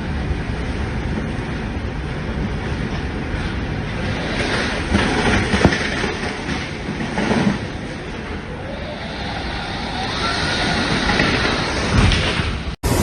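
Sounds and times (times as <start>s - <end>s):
strong wind rushing: 0.0s - 13.0s.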